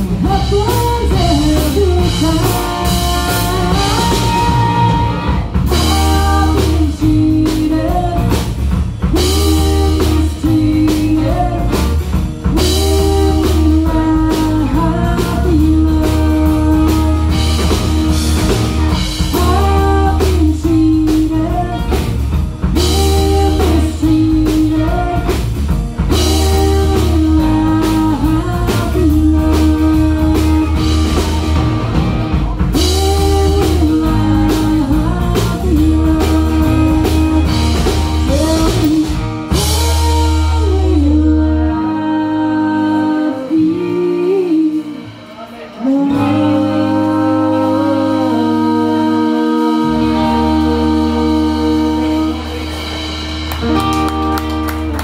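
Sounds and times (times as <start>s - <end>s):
drum kit: 0.0s - 55.0s
electric bass: 0.0s - 55.0s
electric guitar: 0.0s - 55.0s
woman singing lead: 0.0s - 55.0s.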